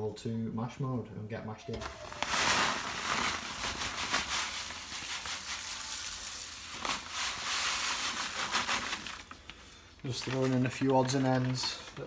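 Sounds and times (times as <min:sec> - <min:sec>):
plastic bag rustling: 0:01.7 - 0:12.0
grain pouring: 0:01.8 - 0:12.0.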